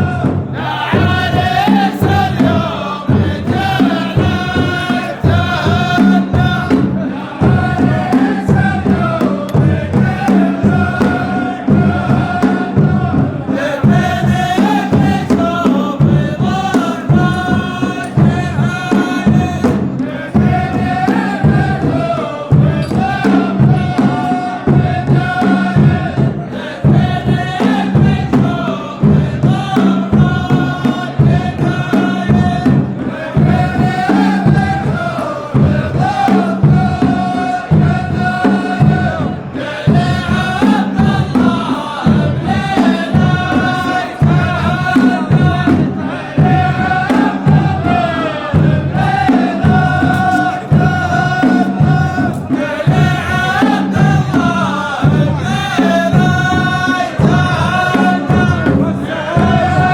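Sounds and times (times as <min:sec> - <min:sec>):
steady beat: 0:00.0 - 0:59.9
voices chanting in unison: 0:00.0 - 0:59.9.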